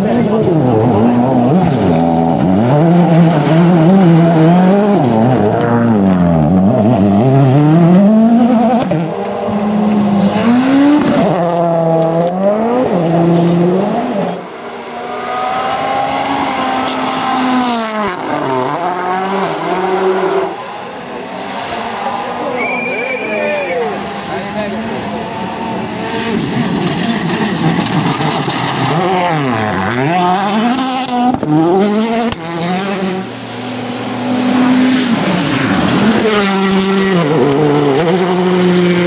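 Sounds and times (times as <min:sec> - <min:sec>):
rally car engine revving hard: 0:00.0 - 0:20.6, 0:24.0 - 0:39.0.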